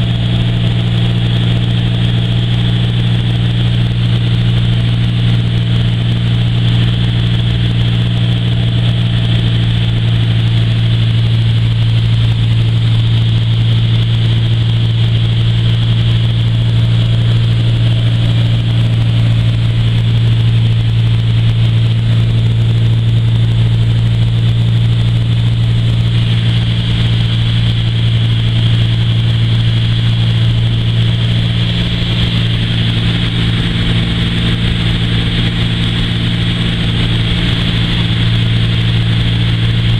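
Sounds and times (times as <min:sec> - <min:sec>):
propeller engine drone: 0:00.0 - 0:39.9.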